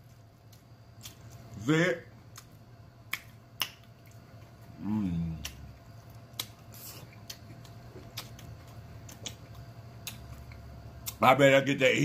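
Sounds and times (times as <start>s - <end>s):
wet chewing clicks and smacks: 0.0s - 1.6s, 2.2s - 4.6s, 5.3s - 11.2s.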